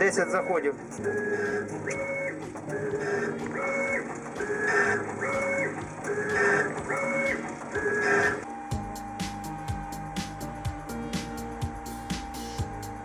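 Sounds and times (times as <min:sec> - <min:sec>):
stepper motor whine: 0:00.0 - 0:13.0.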